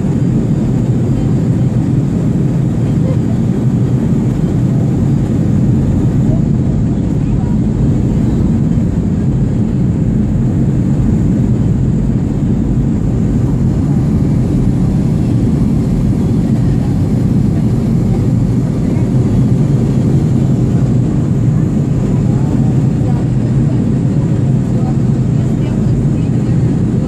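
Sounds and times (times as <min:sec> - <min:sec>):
aircraft engine rumble: 0:00.0 - 0:27.0
constant hum: 0:00.0 - 0:27.0.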